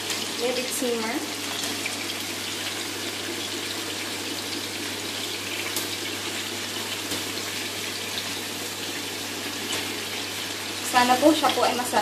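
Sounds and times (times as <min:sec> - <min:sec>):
chicken wings sizzling in oil: 0:00.0 - 0:12.0.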